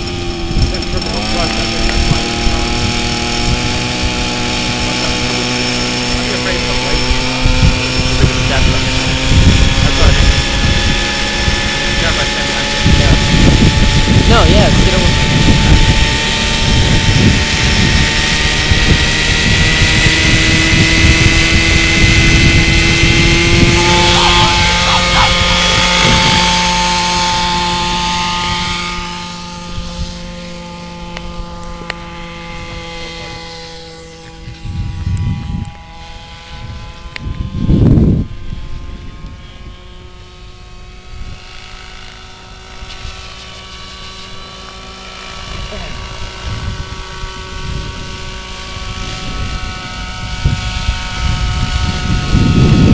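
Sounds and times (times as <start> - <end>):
model helicopter rotor whine: 0.0 - 52.9.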